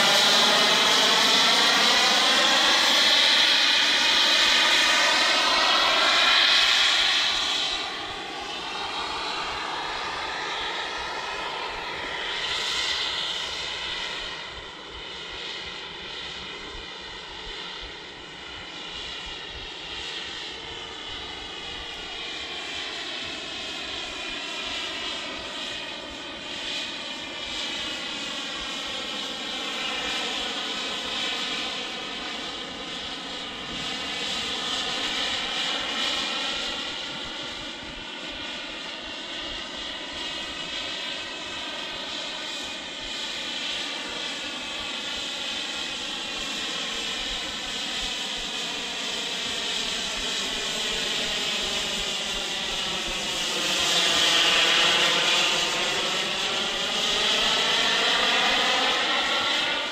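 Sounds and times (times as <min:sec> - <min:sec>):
model jet engine whine: 0:00.0 - 0:59.9.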